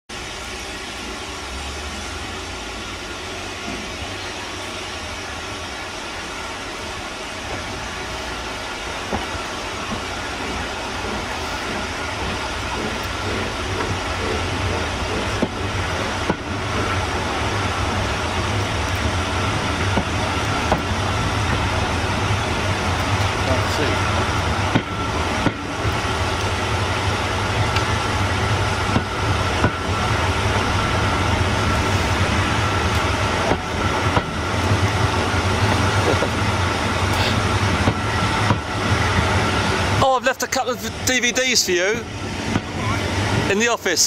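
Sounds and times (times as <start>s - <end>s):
train rumble and hum: 0.1s - 44.0s.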